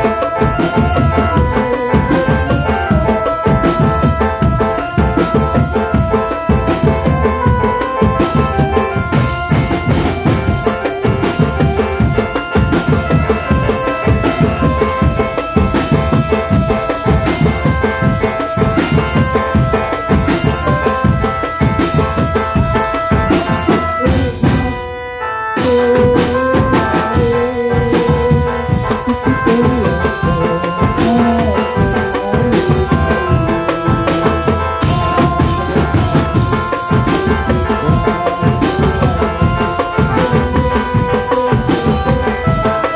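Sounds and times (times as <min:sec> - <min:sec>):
fast dense drum beat: 0:00.0 - 0:24.8, 0:25.7 - 0:42.9
melody over drums: 0:00.0 - 0:42.9.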